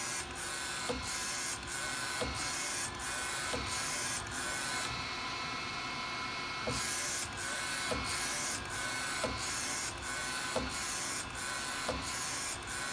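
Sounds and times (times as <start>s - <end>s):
printer carriage whirring hiss: 0.0s - 12.9s.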